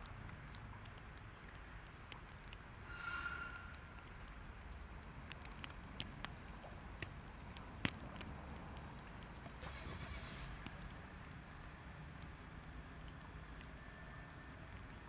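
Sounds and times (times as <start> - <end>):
light ticks: 0.0 - 9.7, 10.4 - 15.0
soft hiss: 0.0 - 15.0.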